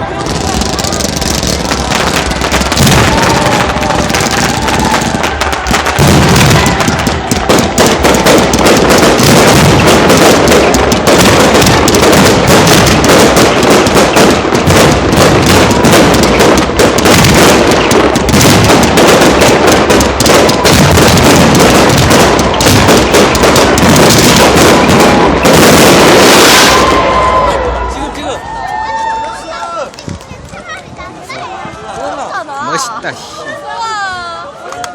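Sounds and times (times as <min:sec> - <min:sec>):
fireworks bangs and crackling: 0:00.0 - 0:31.6.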